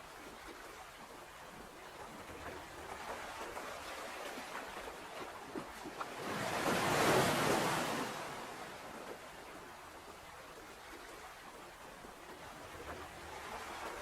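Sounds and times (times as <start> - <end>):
ocean waves on shore: 0.0 - 14.0.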